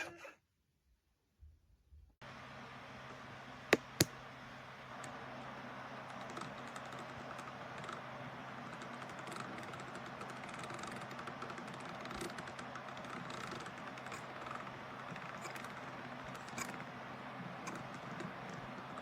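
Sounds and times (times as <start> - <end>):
faint clicking and tapping: 3.0 - 19.0.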